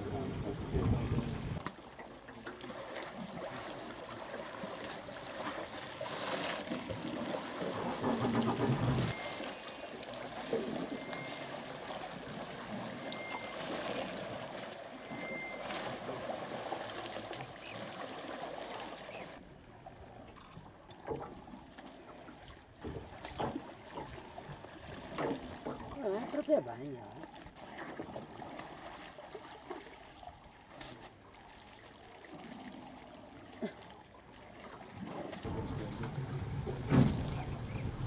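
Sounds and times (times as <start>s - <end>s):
water splashing against boat hull: 0.0s - 38.0s.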